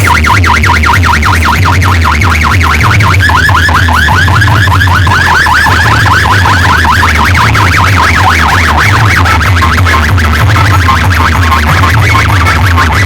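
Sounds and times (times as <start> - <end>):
heavy bass: 0.0 - 13.0
warbling siren-like electronic tone: 0.0 - 13.0.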